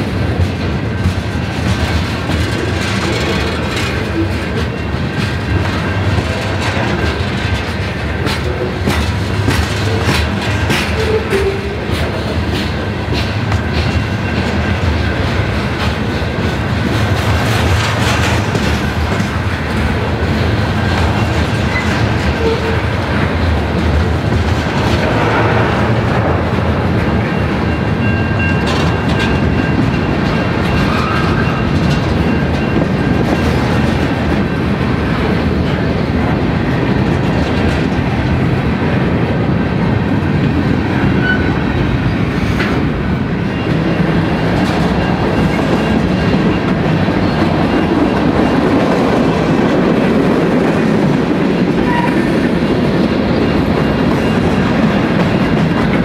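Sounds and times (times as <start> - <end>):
steel wheels clacking over rail joints: 0.0 - 56.0.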